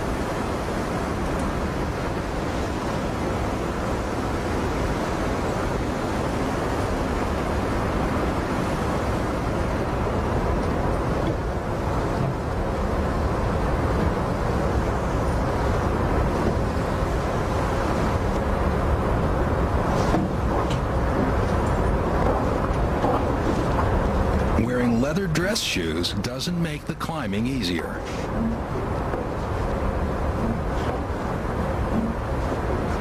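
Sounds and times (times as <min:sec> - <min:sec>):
boat engine running: 0:00.0 - 0:33.0
water rushing past hull: 0:00.0 - 0:33.0.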